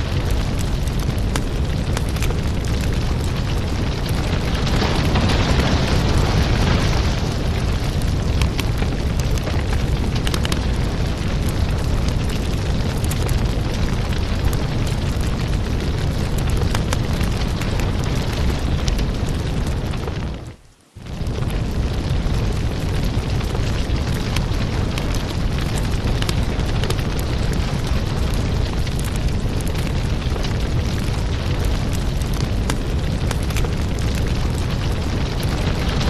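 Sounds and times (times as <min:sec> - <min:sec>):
fire crackles and pops: 0:00.0 - 0:36.0
wood fire rumbling: 0:00.0 - 0:36.0.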